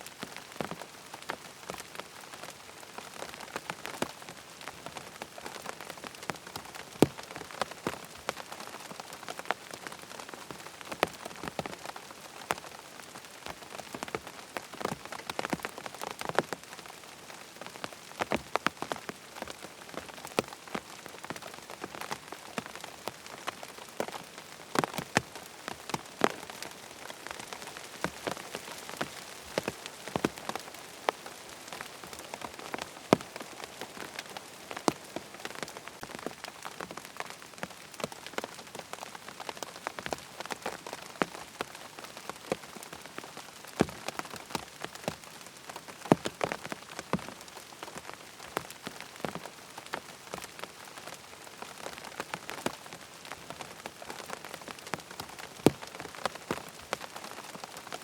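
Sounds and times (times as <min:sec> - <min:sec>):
rain on tent fabric: 0:00.0 - 0:58.0.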